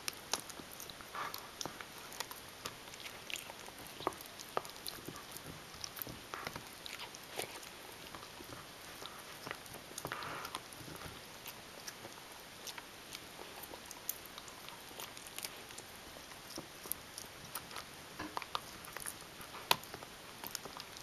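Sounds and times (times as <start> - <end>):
dog gnawing on a bone: 0.0 - 21.0.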